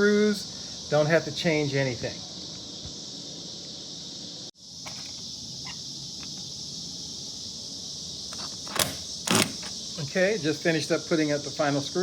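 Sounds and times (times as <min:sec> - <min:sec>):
high-pitched background hiss: 0:00.0 - 0:12.0.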